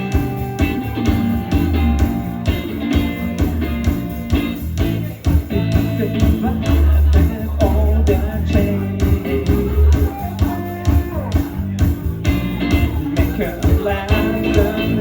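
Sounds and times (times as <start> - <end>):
drum beat: 0.0 - 15.0
electric guitar: 0.0 - 15.0
heavy bass: 0.0 - 15.0.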